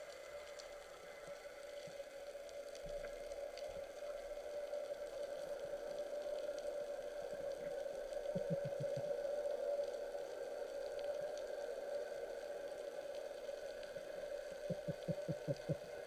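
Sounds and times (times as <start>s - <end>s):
faint clicks: 0.0s - 16.0s
underwater hum: 0.0s - 16.0s.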